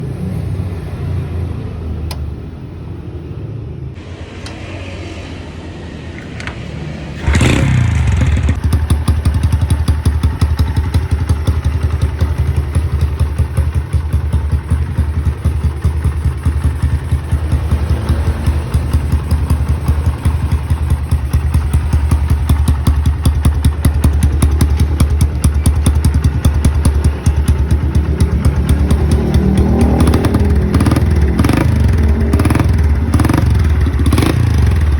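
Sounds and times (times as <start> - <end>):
motorcycle engine starting and running: 0.0 - 34.9.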